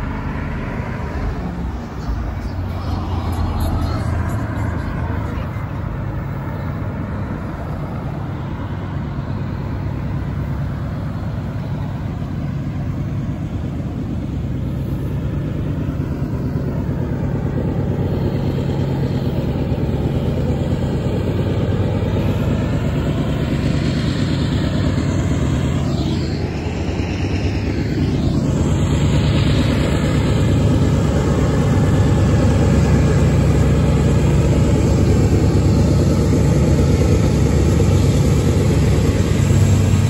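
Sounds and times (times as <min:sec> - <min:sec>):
cars passing: 0:00.0 - 0:40.0
diesel locomotive drone: 0:00.0 - 0:40.0.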